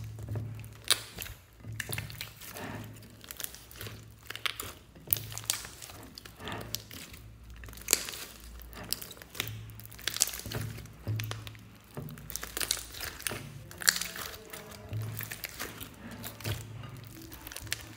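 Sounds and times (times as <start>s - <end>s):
slime squeezed crackling and popping: 0.0s - 17.9s.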